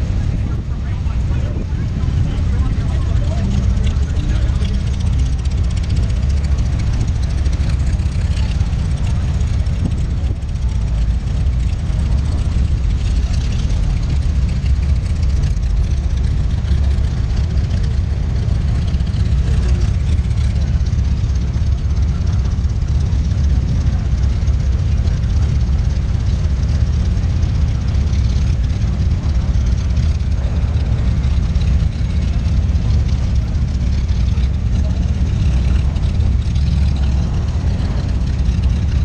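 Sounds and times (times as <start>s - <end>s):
motorcycle engines rumbling: 0.0s - 39.0s.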